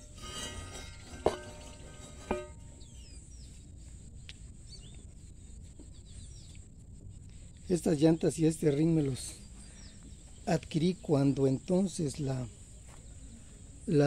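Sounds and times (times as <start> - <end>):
faint bird chirps: 2.6 - 14.0.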